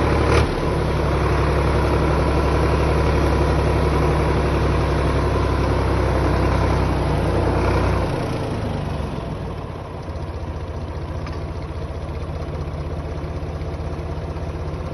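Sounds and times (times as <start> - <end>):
tractor diesel engine: 0.0 - 14.9.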